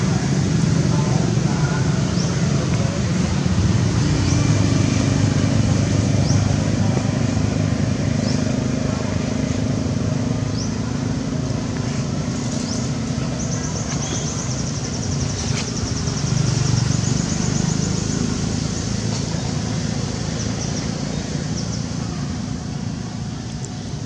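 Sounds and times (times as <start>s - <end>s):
low engine-like hum: 0.0s - 24.0s.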